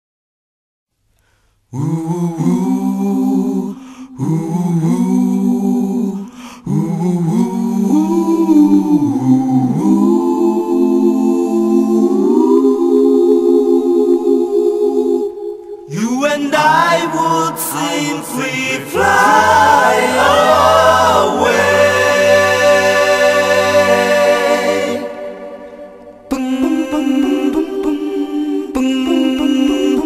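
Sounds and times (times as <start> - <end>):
wordless a cappella singing: 1.7 - 30.0.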